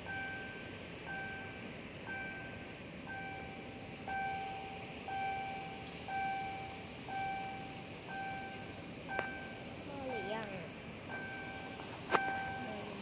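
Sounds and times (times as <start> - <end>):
level crossing electronic warning tone: 0.0 - 13.0
steady background hiss: 0.0 - 13.0.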